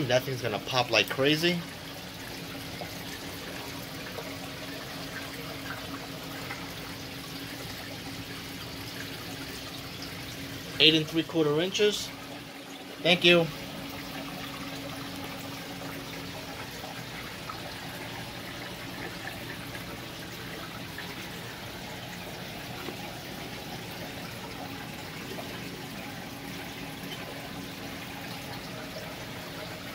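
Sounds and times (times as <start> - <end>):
faint pump hum: 0.0 - 29.9
water rushing and trickling: 0.0 - 29.9.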